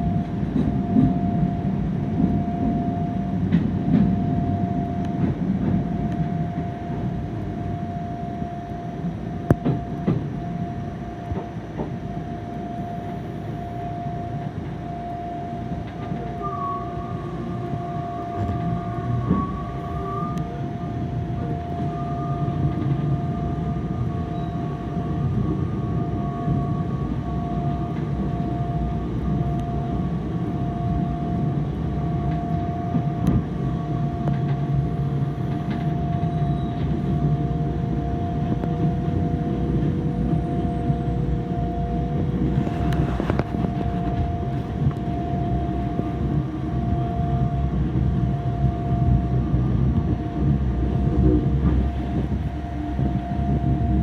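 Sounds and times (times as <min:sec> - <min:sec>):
tram rumble and whine: 0:00.0 - 0:54.0.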